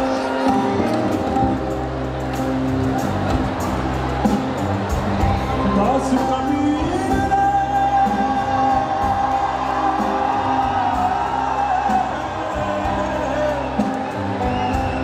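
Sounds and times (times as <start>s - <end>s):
live rock band playing: 0.0s - 15.0s
crowd whooping: 2.3s - 15.0s.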